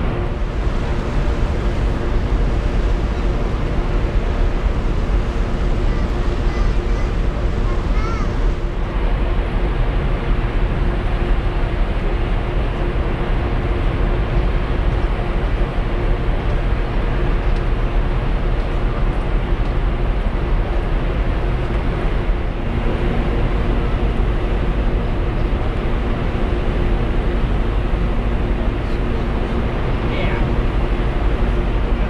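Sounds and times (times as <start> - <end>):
low tonal hum: 0.0 - 32.0
ship engines deep rumble: 0.0 - 32.0.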